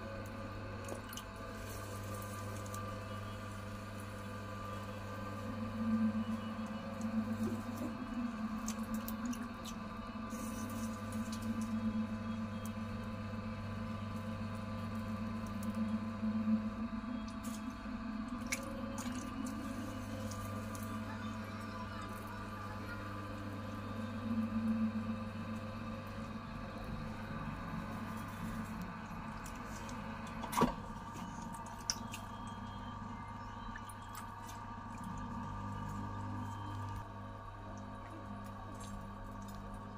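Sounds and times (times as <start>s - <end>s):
potter's wheel humming: 0.0s - 39.9s.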